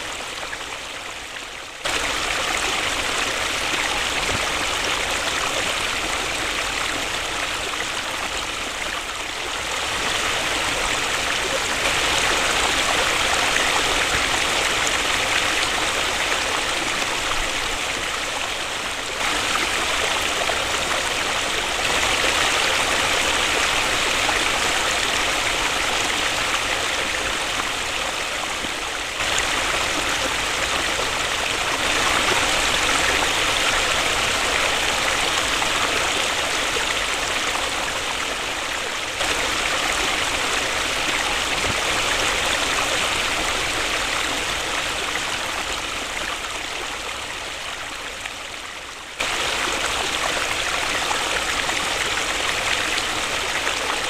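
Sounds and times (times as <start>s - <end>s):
waterfall rushing: 1.9s - 48.0s.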